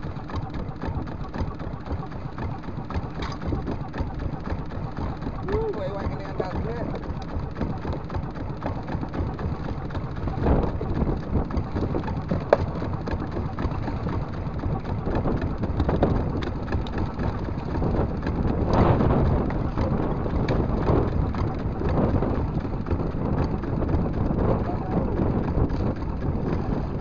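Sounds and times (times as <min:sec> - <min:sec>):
water sloshing against hull: 0:00.0 - 0:24.4
wind: 0:00.0 - 0:27.0.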